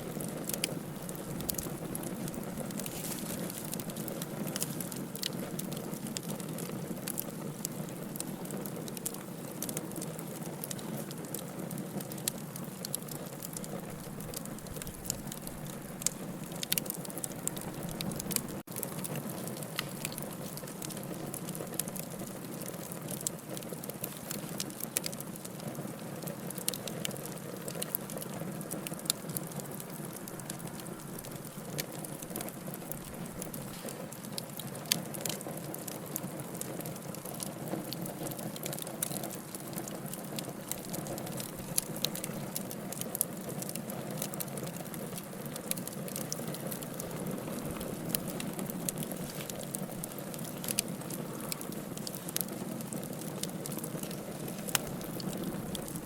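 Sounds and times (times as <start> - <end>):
fire crackles and pops: 0.0 - 56.0
wood fire burning: 0.0 - 56.0.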